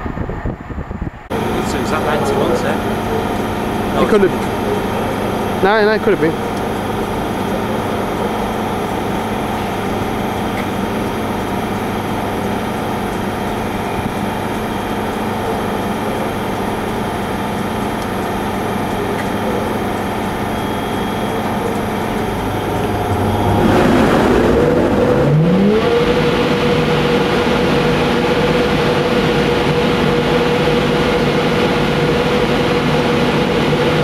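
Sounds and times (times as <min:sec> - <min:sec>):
electric locomotive humming: 0:00.0 - 0:34.0.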